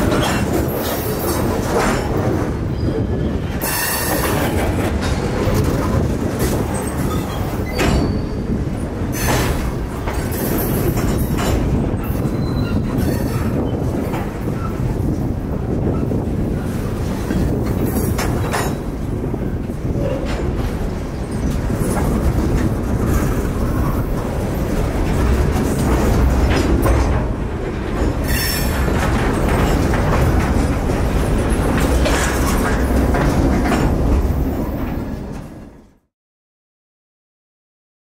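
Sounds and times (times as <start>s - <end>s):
clanks and rattles from boxcars: 0.0s - 36.0s
train wheels rolling on track: 0.0s - 36.1s.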